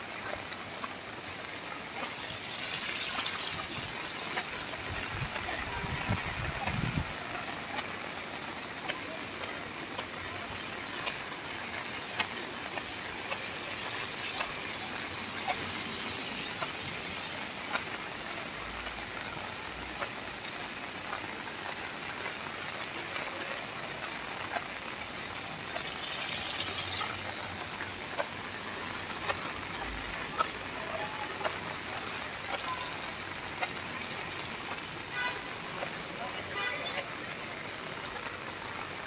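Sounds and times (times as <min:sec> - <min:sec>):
rain on a paved road: 0:00.0 - 0:39.0
sharp drip ticks: 0:00.1 - 0:39.0.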